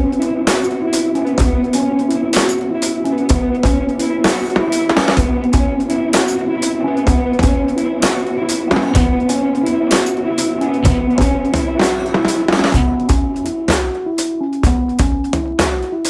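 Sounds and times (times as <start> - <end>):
music with drum-kit beat: 0.0 - 16.0.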